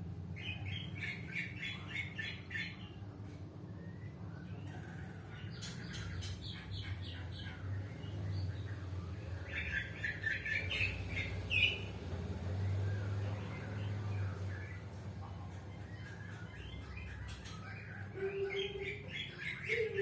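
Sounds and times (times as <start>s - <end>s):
low steady hum: 0.0s - 20.0s
small birds chirping: 0.2s - 20.0s.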